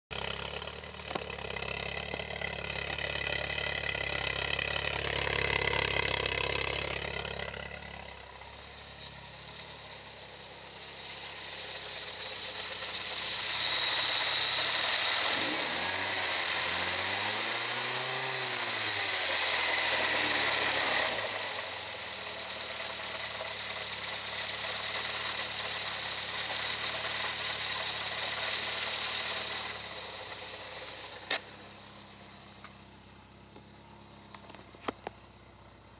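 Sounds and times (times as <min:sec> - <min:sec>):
car engine revving and idling: 0:00.1 - 0:35.9.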